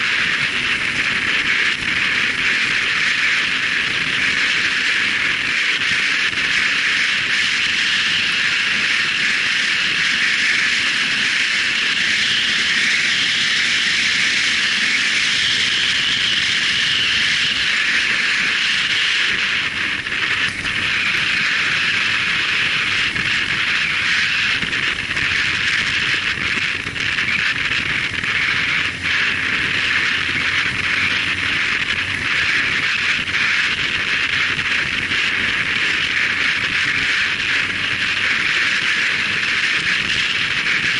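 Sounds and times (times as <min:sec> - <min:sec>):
rushing wind and road noise: 0:00.0 - 0:40.9.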